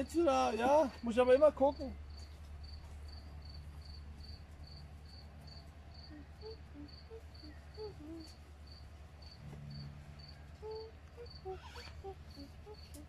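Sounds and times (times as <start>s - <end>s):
cricket chirping: 0.0s - 13.0s
low background hum: 0.0s - 13.0s.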